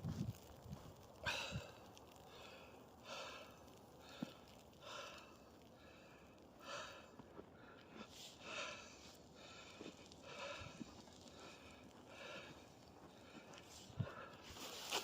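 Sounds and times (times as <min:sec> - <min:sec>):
person breathing hard: 0:01.2 - 0:15.0.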